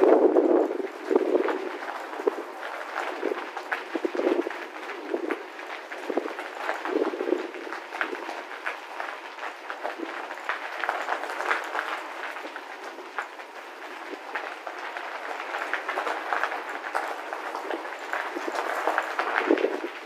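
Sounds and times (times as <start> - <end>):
bicycle tyres rolling on gravel: 0.0 - 20.0.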